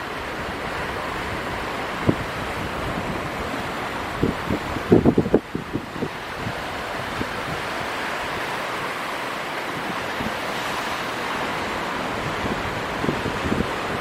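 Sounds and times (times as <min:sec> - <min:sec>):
wind buffeting microphone: 0:00.0 - 0:14.0
strong wind rushing: 0:01.3 - 0:14.0.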